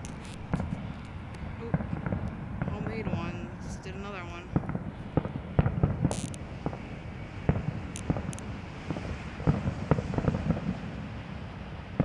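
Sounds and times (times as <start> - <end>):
fireworks popping and banging: 0.0 - 6.9, 7.5 - 10.9.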